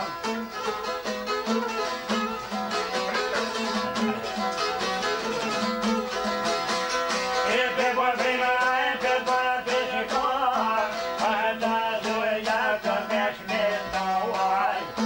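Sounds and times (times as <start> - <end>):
plucked lute folk melody: 0.0 - 15.0.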